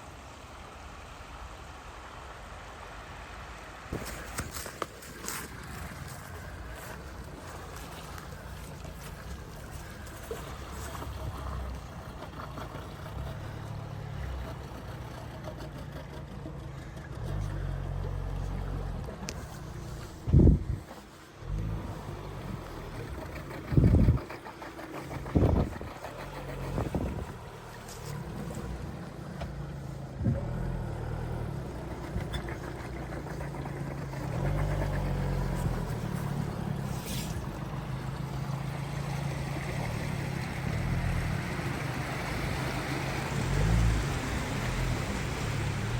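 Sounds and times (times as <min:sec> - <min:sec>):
water rushing: 0:00.0 - 0:16.2, 0:17.2 - 0:45.9
vehicle engine running low: 0:00.0 - 0:45.9.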